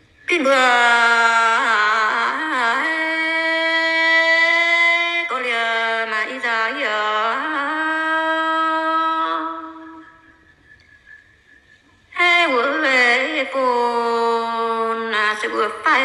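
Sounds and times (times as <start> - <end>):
person singing unaccompanied: 0.3 - 10.2, 12.2 - 16.0.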